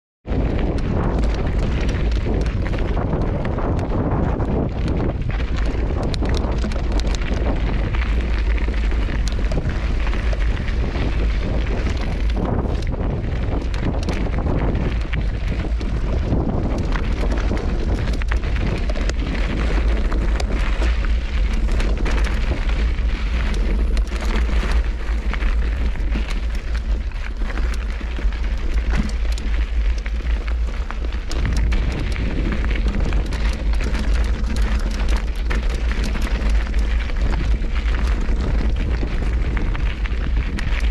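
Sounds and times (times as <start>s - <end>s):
wind buffeting microphone: 0.2s - 40.9s
bike rattling: 0.3s - 40.9s
tyres crunching over gravel: 0.3s - 40.9s
stones clicking and knocking: 0.6s - 40.9s.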